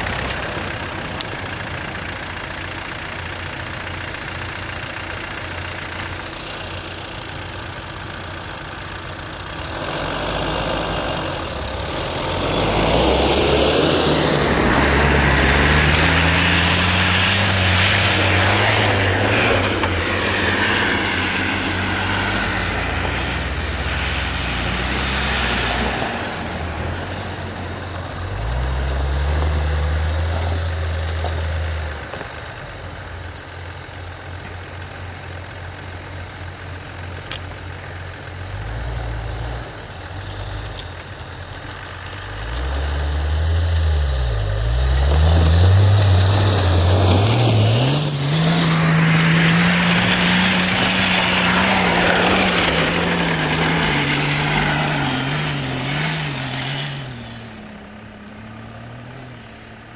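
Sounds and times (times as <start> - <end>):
off-road engines revving: 0.0 - 59.9.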